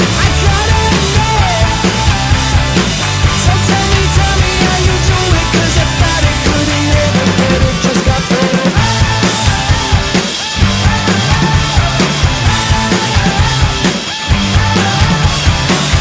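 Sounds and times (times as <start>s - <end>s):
rock music with drums and bass: 0.0s - 16.0s.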